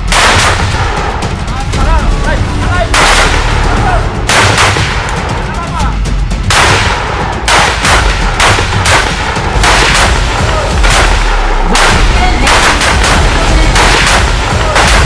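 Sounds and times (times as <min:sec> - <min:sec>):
rifle shots with echo: 0:00.0 - 0:01.3, 0:02.9 - 0:05.4, 0:06.4 - 0:15.0.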